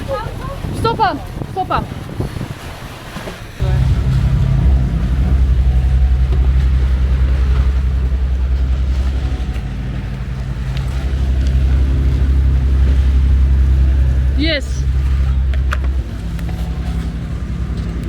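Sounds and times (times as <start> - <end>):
boat engine throbbing: 0.0 - 2.2, 3.6 - 18.0.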